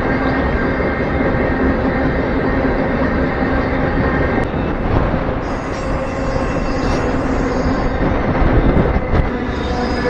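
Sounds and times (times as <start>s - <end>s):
freight train rumbling on rails: 0.0s - 10.0s.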